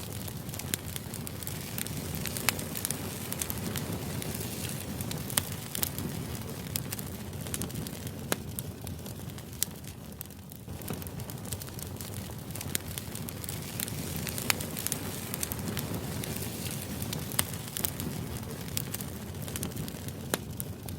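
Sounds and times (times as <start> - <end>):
sharp crackles and clicks: 0.0 - 20.9.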